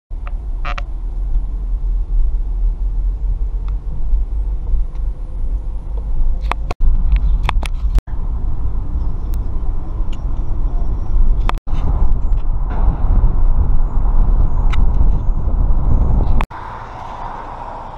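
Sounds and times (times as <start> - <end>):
road and wind rumble: 0.1 - 17.9.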